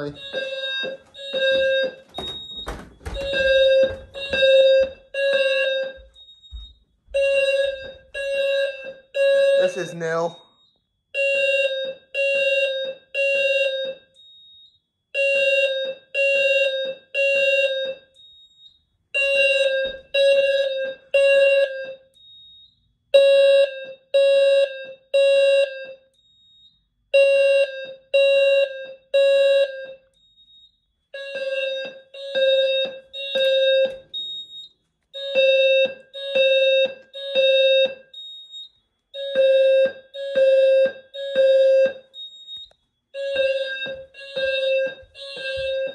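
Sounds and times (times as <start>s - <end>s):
fire alarm buzzy beeps: 0.0s - 45.9s.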